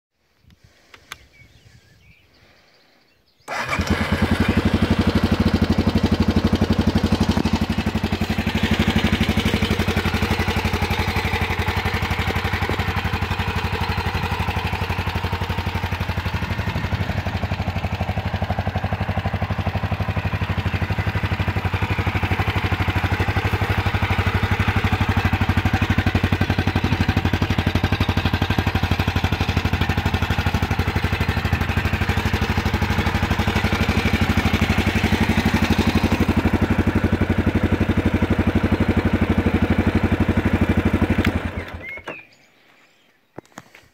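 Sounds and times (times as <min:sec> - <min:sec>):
motorcycle engine starting and idling: 0:03.4 - 0:42.5.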